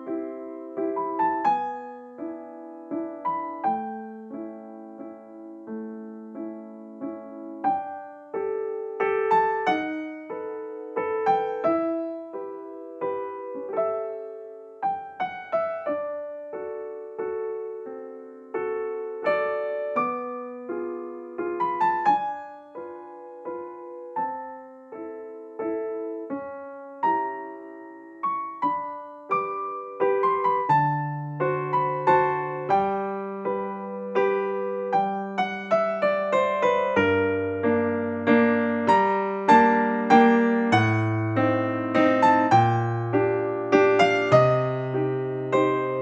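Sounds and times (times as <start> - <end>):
soft solo piano music: 0.0 - 46.0.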